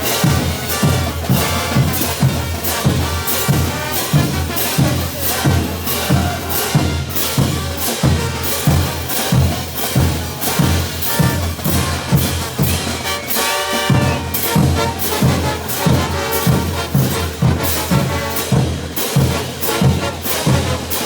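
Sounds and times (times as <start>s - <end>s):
brass band playing: 0.0s - 21.0s
drum beat: 0.0s - 21.0s.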